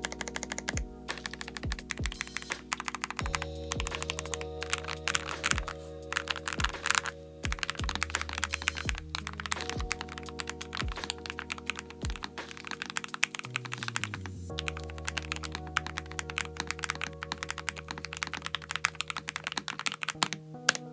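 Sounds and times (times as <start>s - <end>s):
background music: 0.0s - 20.9s.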